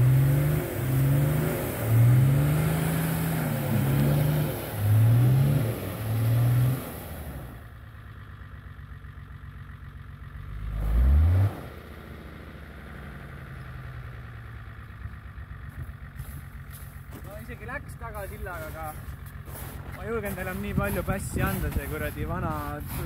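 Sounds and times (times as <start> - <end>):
diesel engine revving and idling: 0.0 - 23.0.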